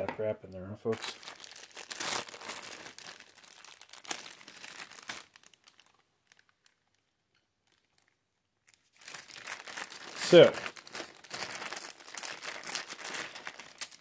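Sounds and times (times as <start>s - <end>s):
plastic bags crinkling: 0.9s - 14.0s.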